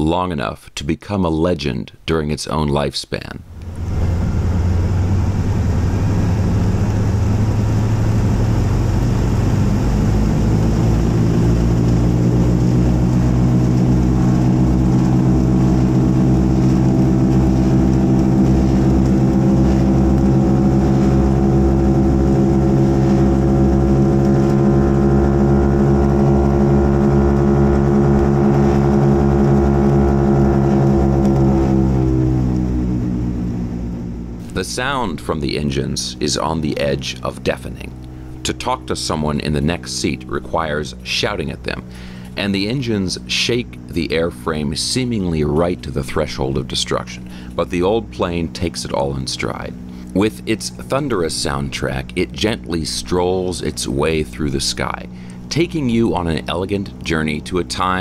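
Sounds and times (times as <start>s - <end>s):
propeller engines droning: 3.4s - 58.0s.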